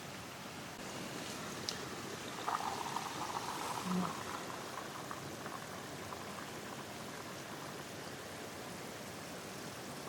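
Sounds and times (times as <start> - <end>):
pot of broth simmering: 1.3 - 9.6.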